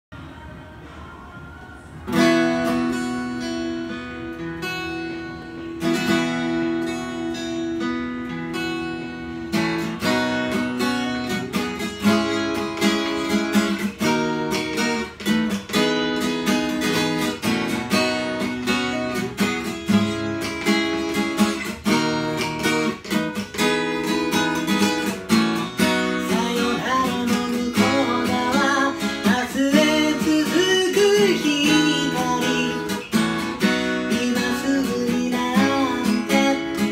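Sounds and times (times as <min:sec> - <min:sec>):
acoustic guitar strumming: 0:00.2 - 0:36.9.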